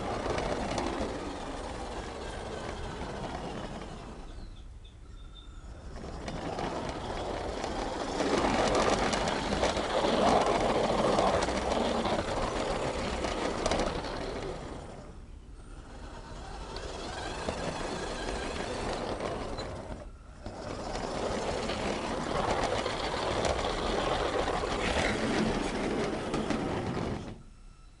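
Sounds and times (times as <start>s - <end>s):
model train wheels rattling on rails: 0.0s - 27.5s.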